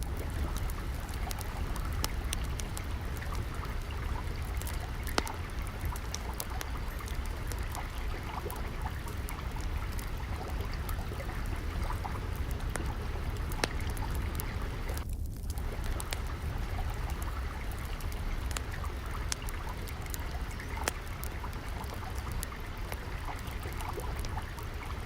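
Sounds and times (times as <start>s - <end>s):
water trickling: 0.0s - 25.0s
wood fire crackling and popping: 0.0s - 25.0s.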